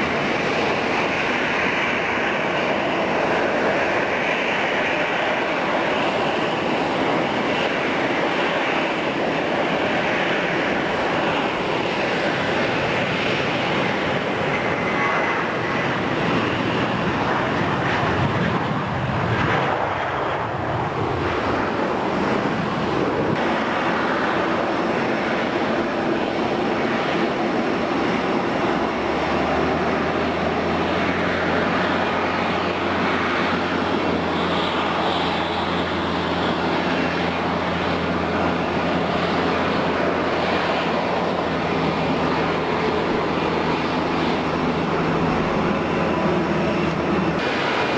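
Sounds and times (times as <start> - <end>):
jet engines rushing: 0.0 - 47.9.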